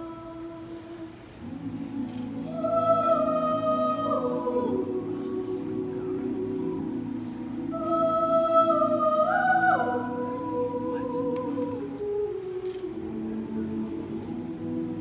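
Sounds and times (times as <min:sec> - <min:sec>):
mixed choir singing: 0:00.0 - 0:15.0.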